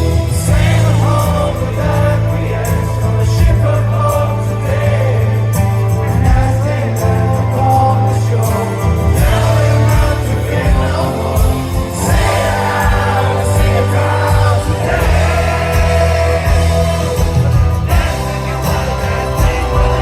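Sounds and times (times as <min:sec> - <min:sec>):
live rock band playing: 0:00.0 - 0:20.0
sustained bass notes: 0:00.0 - 0:20.0.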